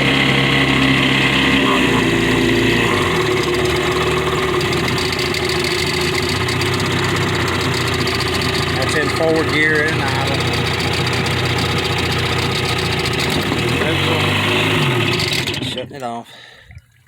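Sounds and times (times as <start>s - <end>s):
outboard motor idling: 0.0s - 16.6s.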